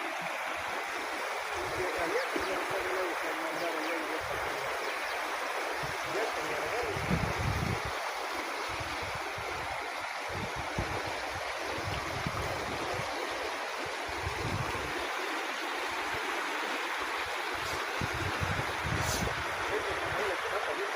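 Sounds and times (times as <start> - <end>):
flowing water rushing: 0.0 - 20.9.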